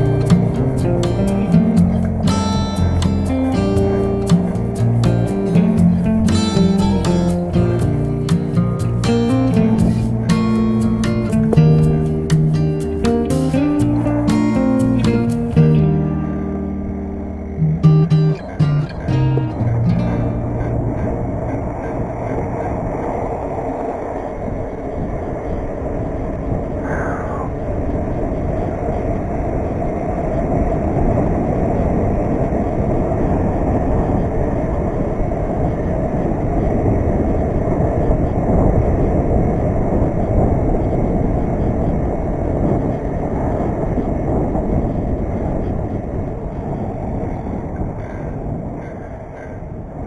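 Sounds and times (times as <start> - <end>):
tyres rolling on asphalt: 0.0 - 26.9, 27.6 - 50.0
wind rumble on camera case: 0.0 - 50.0.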